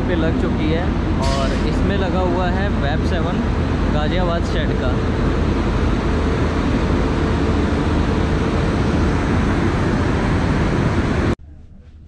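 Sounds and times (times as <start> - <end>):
train machinery drone: 0.0 - 12.0.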